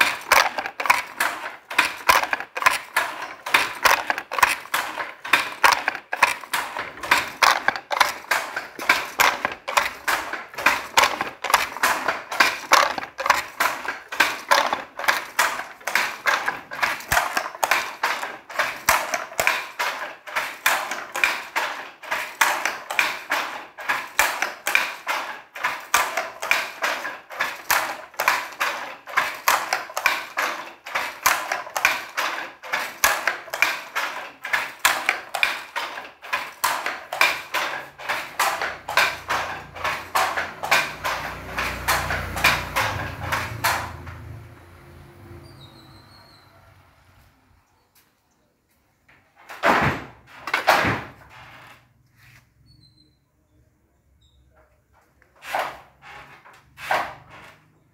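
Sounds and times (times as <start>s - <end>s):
handloom wooden knocks clattering: 0.0s - 44.5s, 49.1s - 52.0s, 54.5s - 57.9s.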